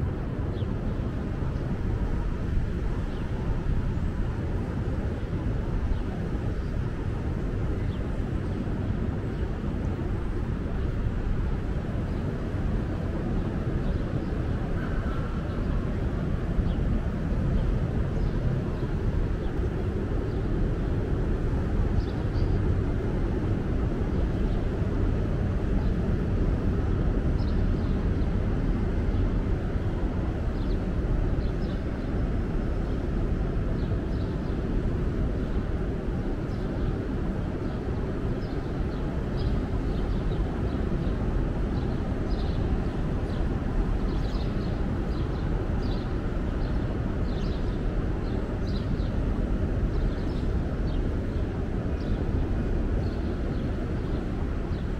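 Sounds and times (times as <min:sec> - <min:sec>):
low outdoor rumble: 0:00.0 - 0:54.9.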